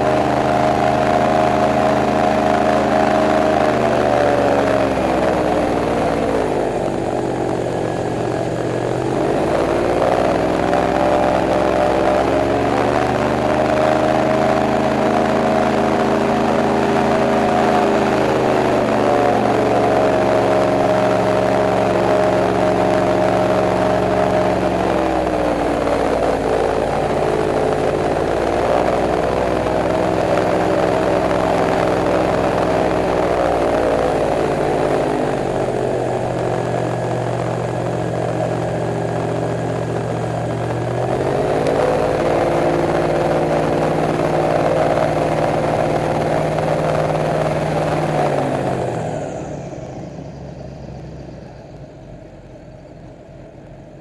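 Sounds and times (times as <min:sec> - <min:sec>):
airboat engine drone: 0:00.0 - 0:54.0.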